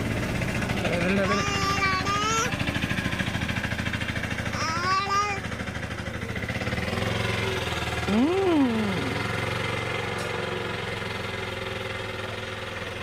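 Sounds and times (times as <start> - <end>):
engine running with pulsing drone: 0.0 - 13.0.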